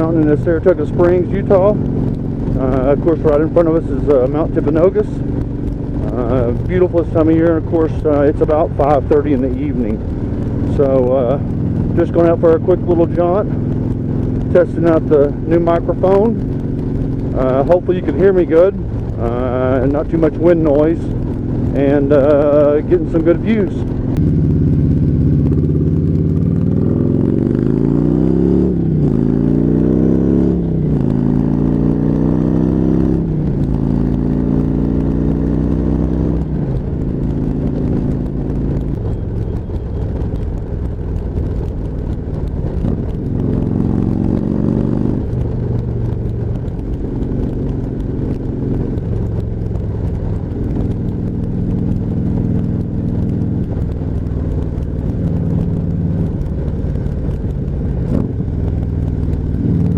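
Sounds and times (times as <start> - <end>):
motorcycle engine accelerating: 0.0 - 59.9
wind rumble on microphone: 0.0 - 59.9.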